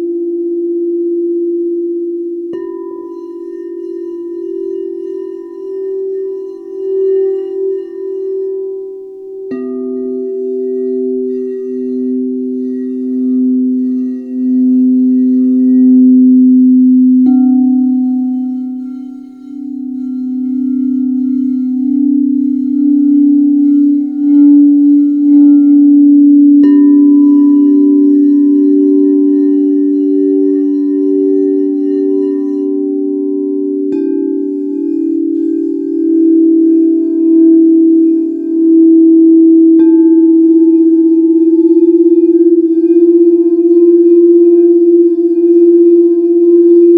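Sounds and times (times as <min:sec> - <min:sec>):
singing bowls ringing: 0:00.0 - 0:46.9.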